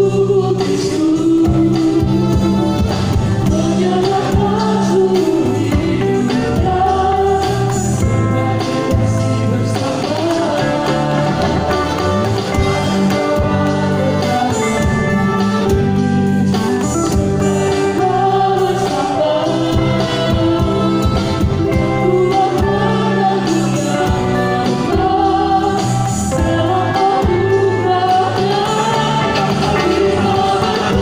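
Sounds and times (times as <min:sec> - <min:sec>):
electric guitar: 0:00.0 - 0:31.0
group singing: 0:00.0 - 0:31.0
worship band playing: 0:00.0 - 0:31.0
electronic drum kit beat: 0:05.4 - 0:31.0.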